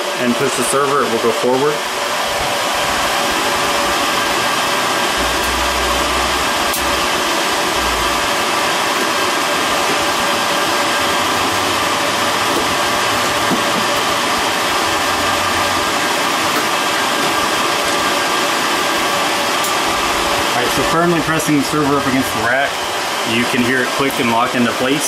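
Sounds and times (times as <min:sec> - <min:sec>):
cooling fans whirring: 0:00.0 - 0:25.0.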